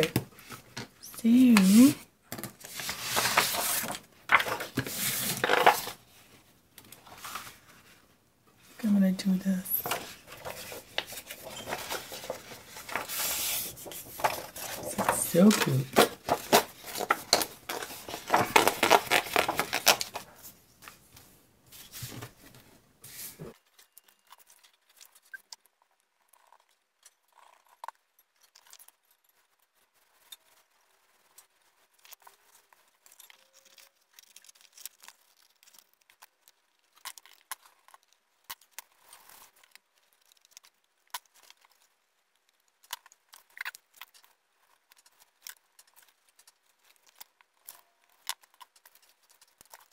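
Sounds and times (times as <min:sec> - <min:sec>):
paper rustling and crinkling: 0:00.0 - 0:08.7, 0:09.5 - 0:25.6, 0:28.4 - 0:49.9.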